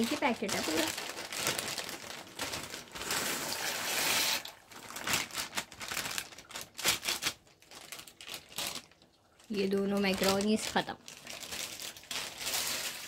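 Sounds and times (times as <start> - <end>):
pasta pouring into water: 0.0 - 13.0
plastic packet crinkling: 0.0 - 13.0.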